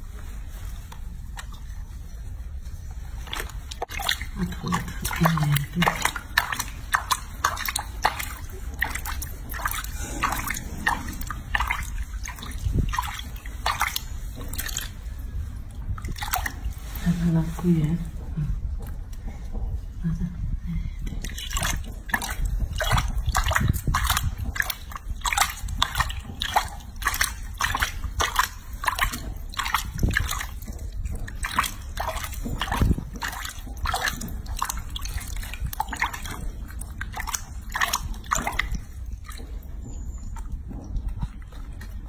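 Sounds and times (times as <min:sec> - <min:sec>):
water splashing in a sink: 0:00.0 - 0:42.0.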